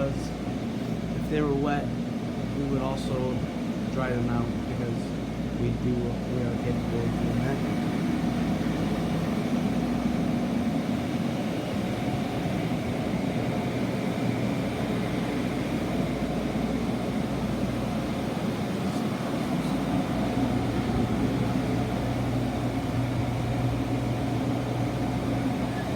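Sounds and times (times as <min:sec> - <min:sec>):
air movers droning: 0:00.0 - 0:25.9.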